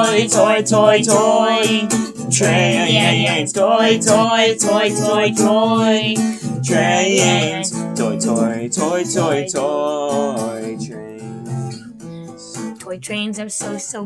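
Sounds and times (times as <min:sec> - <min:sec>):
person singing: 0:00.0 - 0:12.7
strummed guitar: 0:00.0 - 0:14.0.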